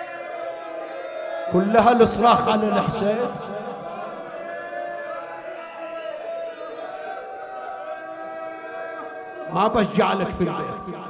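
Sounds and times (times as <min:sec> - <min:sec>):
congregation responding: 0:00.0 - 0:11.0.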